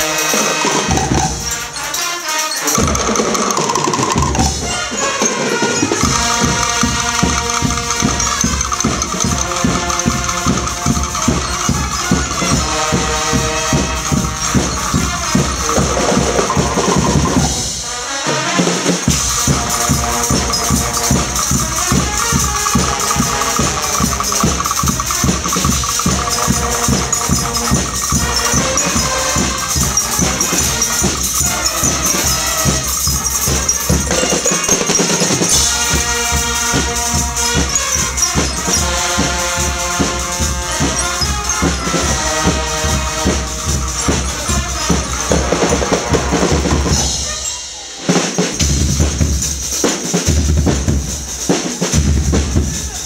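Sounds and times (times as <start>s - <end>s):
brass band playing: 0.0s - 53.0s
drum kit with cymbals: 0.0s - 53.0s.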